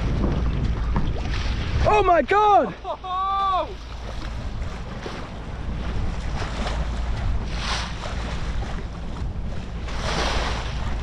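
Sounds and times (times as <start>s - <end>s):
rushing water splash: 0.0s - 9.0s, 9.7s - 11.0s
choppy sea water washing: 0.0s - 11.0s
wind buffeting microphone: 0.0s - 11.0s.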